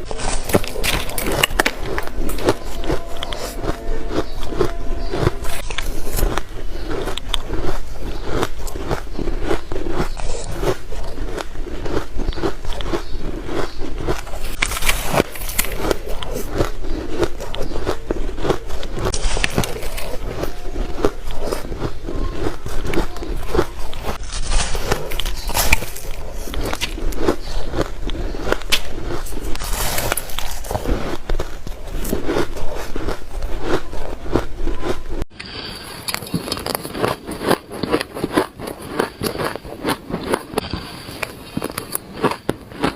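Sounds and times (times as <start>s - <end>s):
crunching of chewed ice: 0.0s - 42.9s.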